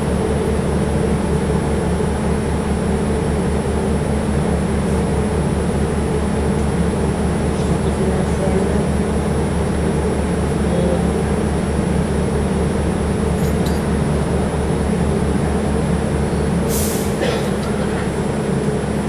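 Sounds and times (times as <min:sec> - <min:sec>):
subway car rumble: 0:00.0 - 0:19.0.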